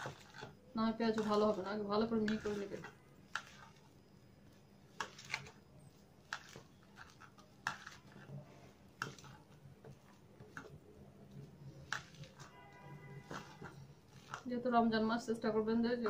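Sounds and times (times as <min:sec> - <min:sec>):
hand squeezing onion in bowl: 0:00.0 - 0:15.3.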